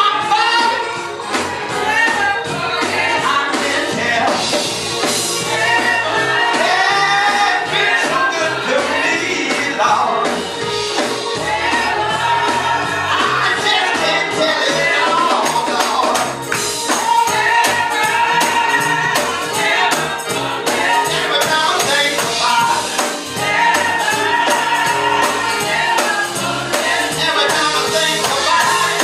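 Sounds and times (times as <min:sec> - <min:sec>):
gospel choir singing: 0:00.0 - 0:29.0
bass line: 0:00.2 - 0:29.0.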